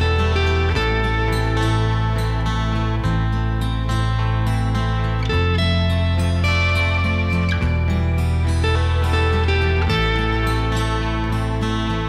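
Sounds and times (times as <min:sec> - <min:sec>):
slow pop instrumental: 0:00.0 - 0:12.0.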